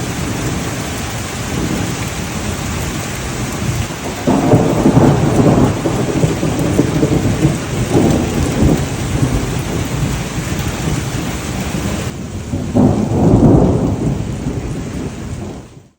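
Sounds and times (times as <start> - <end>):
rain hissing: 0.0 - 15.8
rolling thunder: 0.0 - 15.9.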